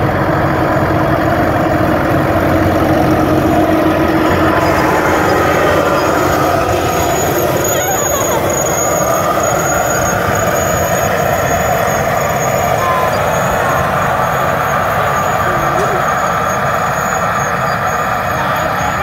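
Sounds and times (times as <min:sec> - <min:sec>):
high whine: 0:00.0 - 0:19.0
tractor diesel engine running: 0:00.0 - 0:19.0.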